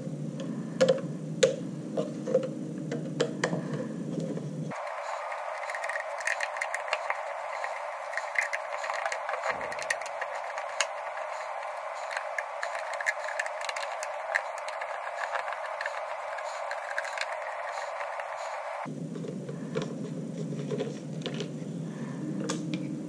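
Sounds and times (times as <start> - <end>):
steady background hiss: 4.4 - 23.0.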